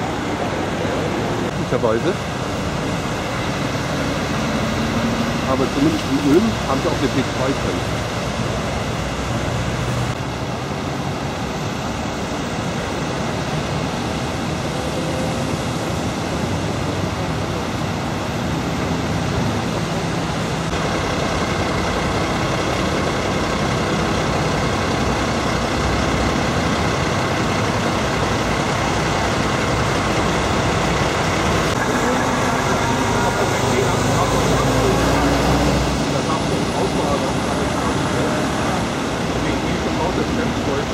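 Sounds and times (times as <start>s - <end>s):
heavy vehicles and diesel engines: 0.0s - 40.9s.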